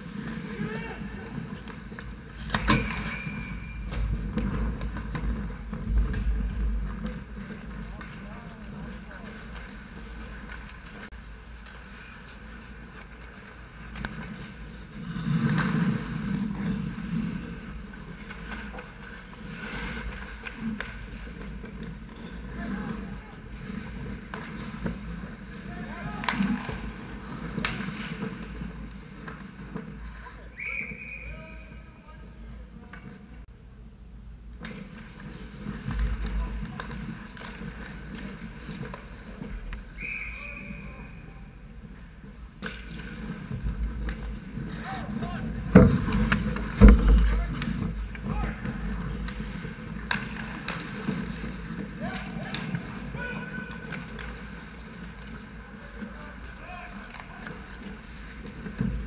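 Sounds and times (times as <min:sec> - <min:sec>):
sticks and puck clacking: 0:00.0 - 0:30.4, 0:34.5 - 0:41.0, 0:41.8 - 0:59.0
skate blades scraping ice: 0:00.0 - 0:31.0, 0:34.7 - 0:41.2, 0:41.9 - 0:59.0.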